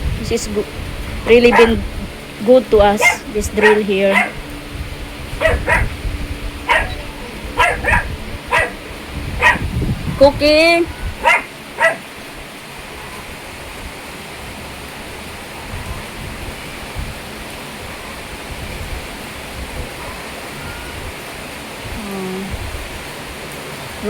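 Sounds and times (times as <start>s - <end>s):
rain hissing: 0.0s - 24.0s
rushing runoff water: 0.0s - 24.0s.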